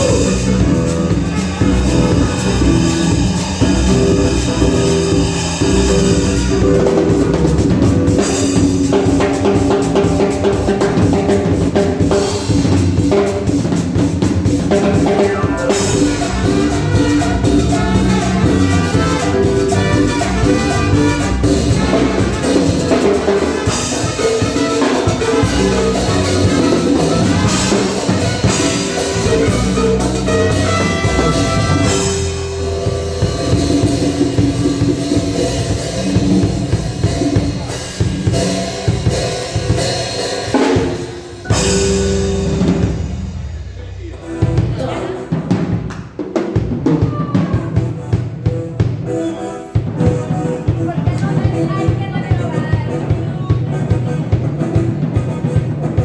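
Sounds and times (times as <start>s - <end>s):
drum kit and bass beat: 0.0s - 56.0s
live cumbia band playing: 0.0s - 56.0s.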